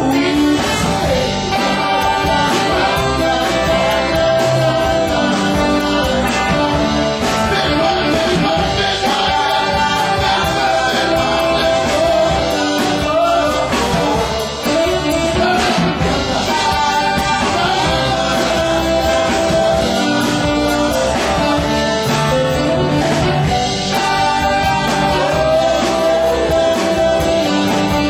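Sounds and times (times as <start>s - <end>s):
electric guitars: 0.0s - 28.0s
keyboard: 0.0s - 28.0s
person singing: 0.0s - 28.0s.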